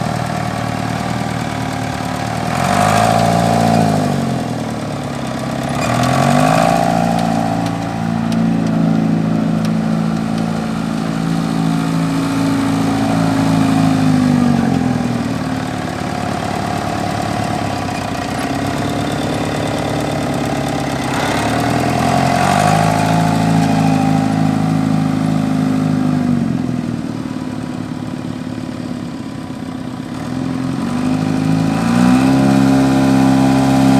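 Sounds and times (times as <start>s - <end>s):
tractor engine revving: 0.0s - 27.5s, 30.1s - 33.9s.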